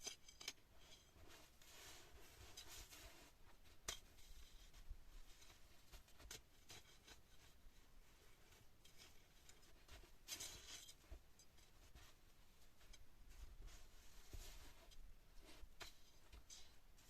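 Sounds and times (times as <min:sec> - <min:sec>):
faint scratching and rustling: 0:00.0 - 0:17.0.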